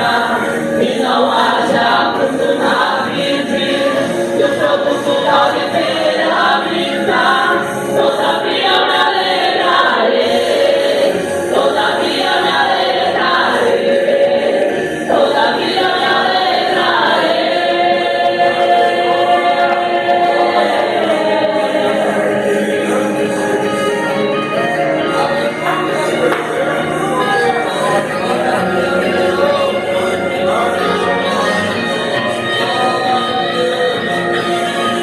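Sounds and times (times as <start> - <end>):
group singing worship song: 0.0 - 35.0.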